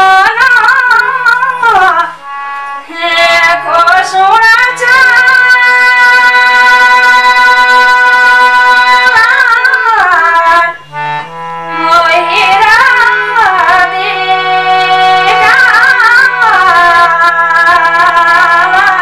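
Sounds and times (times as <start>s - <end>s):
woman singing: 0.0s - 2.2s, 2.8s - 10.8s, 11.7s - 19.0s
instrumental accompaniment with drone: 0.0s - 19.0s.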